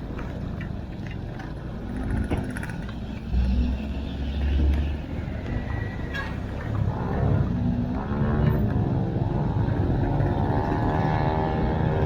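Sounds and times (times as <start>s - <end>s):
vehicle on wet road: 0.0s - 12.0s.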